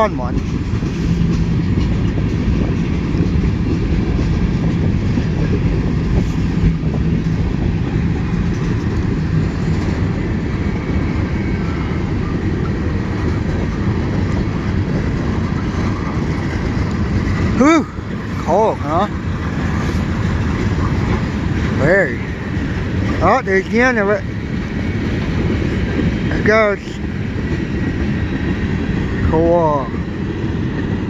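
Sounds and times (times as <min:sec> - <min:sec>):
freight train wheels rumbling on rails: 0:00.0 - 0:31.0.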